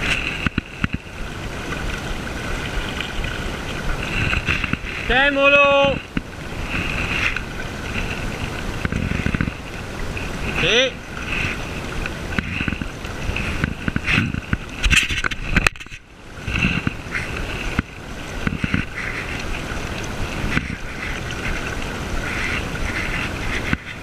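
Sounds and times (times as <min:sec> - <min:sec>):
river water rushing over stones: 0:00.0 - 0:24.0
wind buffeting microphone: 0:00.0 - 0:24.0.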